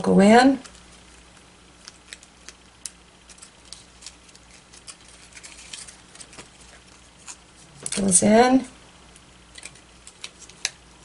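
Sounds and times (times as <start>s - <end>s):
paper crinkling as it is folded: 0.6s - 8.0s, 9.2s - 11.0s.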